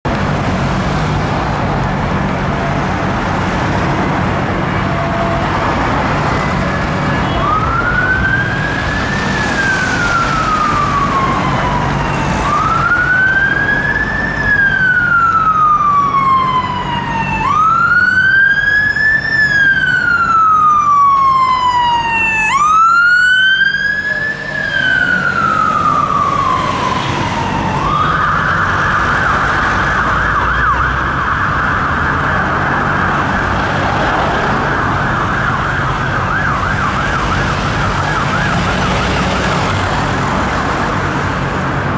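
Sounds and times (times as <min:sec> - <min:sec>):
traffic noise with engine hum: 0:00.0 - 0:41.9
fire engine siren wailing: 0:00.4 - 0:41.9
siren yelp: 0:04.4 - 0:39.9.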